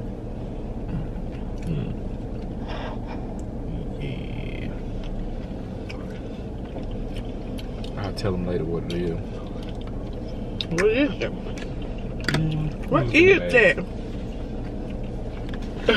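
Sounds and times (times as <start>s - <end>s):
vehicle cabin hum: 0.0s - 15.9s.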